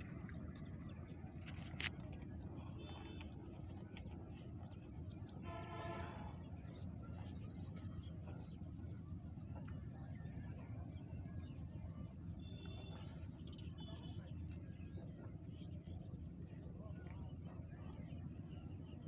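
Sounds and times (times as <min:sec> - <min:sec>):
faint low outdoor rumble: 0:00.0 - 0:19.0.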